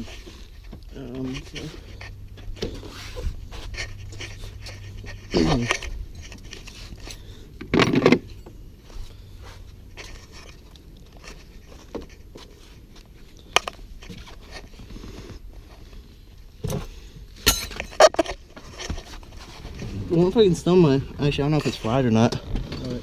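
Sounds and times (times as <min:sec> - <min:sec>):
hand tools clinking and scraping: 0:00.0 - 0:16.0, 0:16.6 - 0:23.0.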